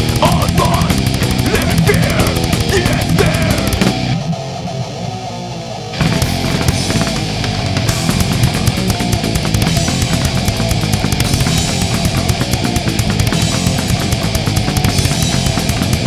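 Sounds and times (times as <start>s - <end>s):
thrash metal band playing: 0.0s - 16.0s.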